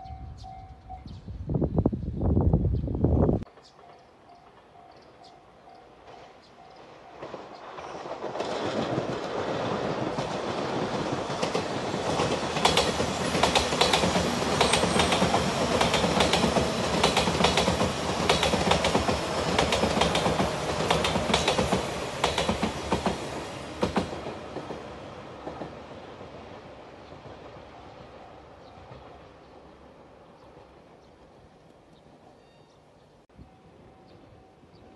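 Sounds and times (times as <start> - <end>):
express train passing: 0.0 - 34.9.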